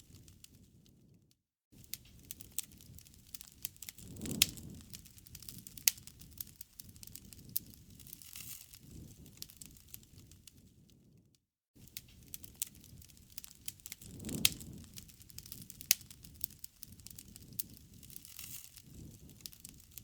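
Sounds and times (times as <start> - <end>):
wood fire crackling: 0.0 - 1.2, 1.8 - 11.2, 11.8 - 20.0.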